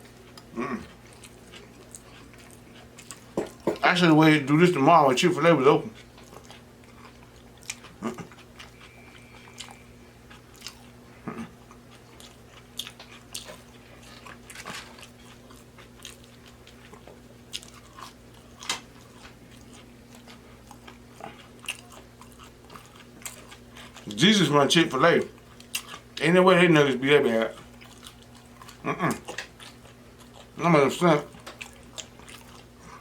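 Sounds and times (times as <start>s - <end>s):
person chewing crunchy food: 0.0s - 3.8s, 4.4s - 33.0s.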